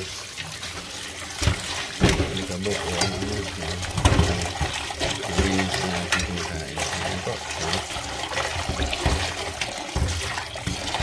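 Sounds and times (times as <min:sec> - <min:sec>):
tap water running into a pot: 0:00.0 - 0:11.0.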